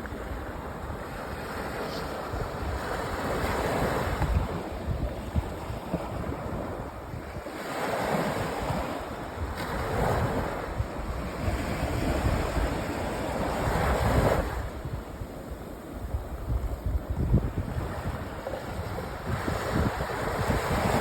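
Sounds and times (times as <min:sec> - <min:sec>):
sea waves breaking on beach: 0:00.0 - 0:21.0
wind buffeting microphone: 0:00.0 - 0:21.0.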